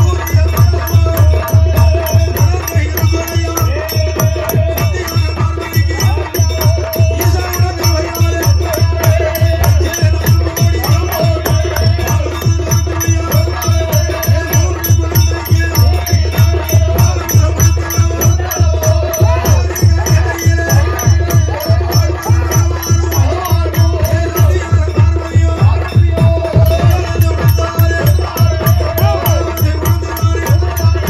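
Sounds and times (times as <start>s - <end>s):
fast steady drumbeat: 0.0s - 31.0s.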